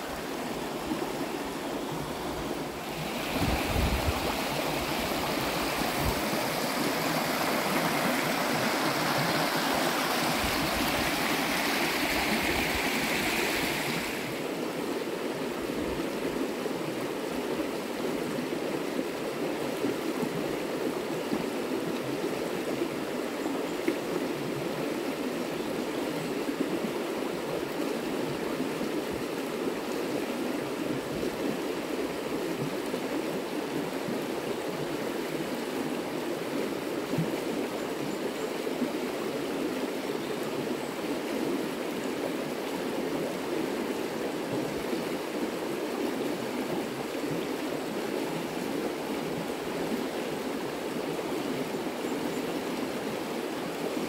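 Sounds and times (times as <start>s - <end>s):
stream water rushing over stones: 0.0s - 54.0s.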